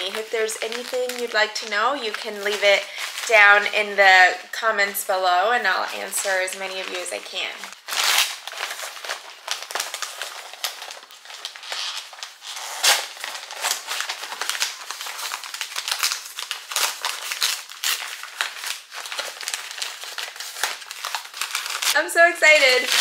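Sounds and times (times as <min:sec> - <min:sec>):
paper wrapping crinkling and tearing: 0:00.0 - 0:23.0.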